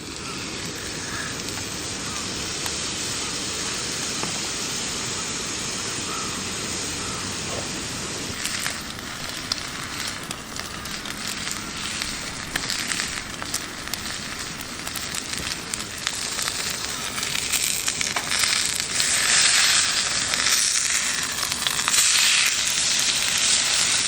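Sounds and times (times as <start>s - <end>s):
beef sizzling on griddle: 0.0s - 24.0s
sharp pops and crackles: 0.0s - 24.0s.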